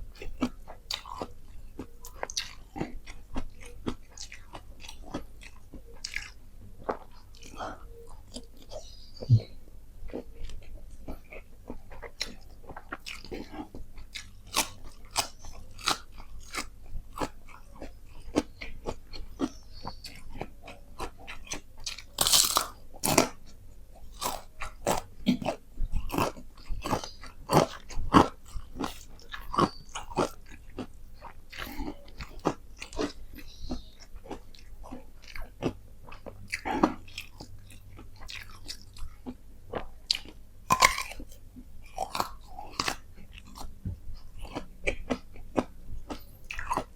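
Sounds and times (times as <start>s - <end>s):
crunchy chewing: 0.1s - 46.9s.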